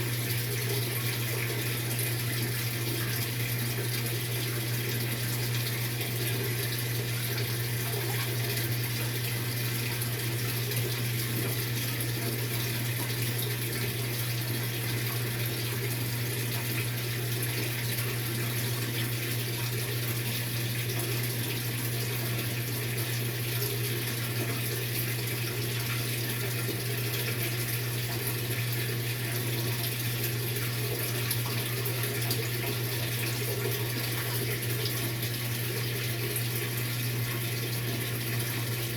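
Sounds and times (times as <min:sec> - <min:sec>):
washing machine hum: 0:00.0 - 0:38.9
washing machine water rushing: 0:00.0 - 0:38.9.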